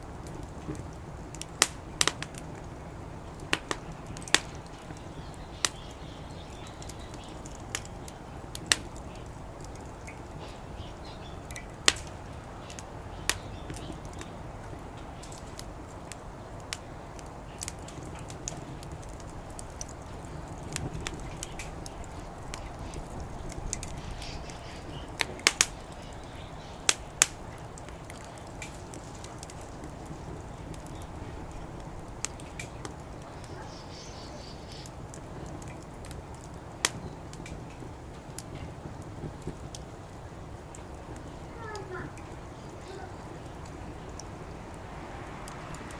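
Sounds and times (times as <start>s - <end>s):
low steady background noise: 0.0s - 45.9s
wood fire crackling: 0.0s - 45.9s.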